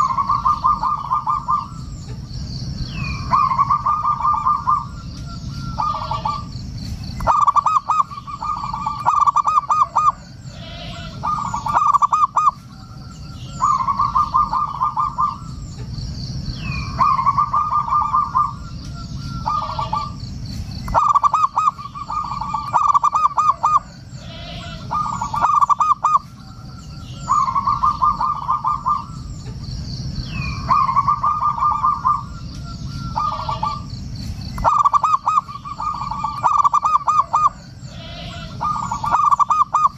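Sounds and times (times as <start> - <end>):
dove cooing: 0.0 - 2.2, 2.8 - 15.8, 16.6 - 29.7, 30.3 - 33.9, 34.5 - 39.9
low background noise: 0.0 - 39.9
small birds chirping: 0.0 - 39.9.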